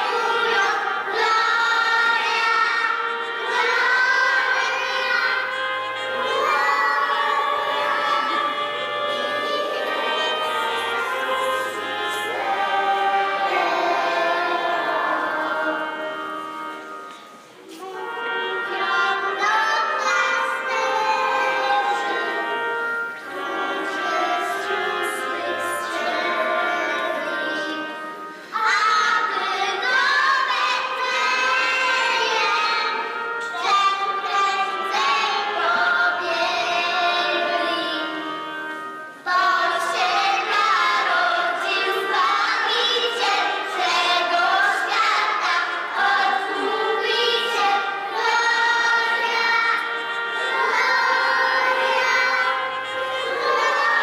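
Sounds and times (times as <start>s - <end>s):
background music: 0.0s - 54.0s
children singing: 0.0s - 54.0s.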